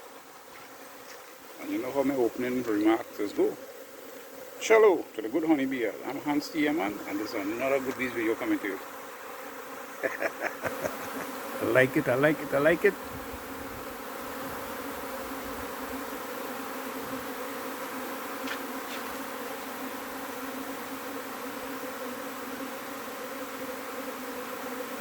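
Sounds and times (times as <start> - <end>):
bee swarm humming: 0.0 - 25.0.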